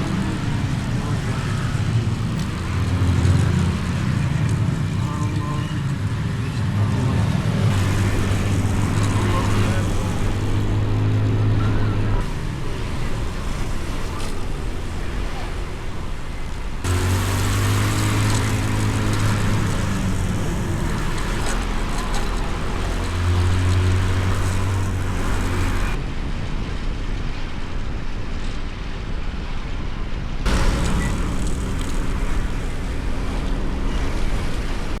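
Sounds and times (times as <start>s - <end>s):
low engine hum: 0.0s - 26.0s, 30.5s - 35.0s
road traffic noise: 0.0s - 35.0s.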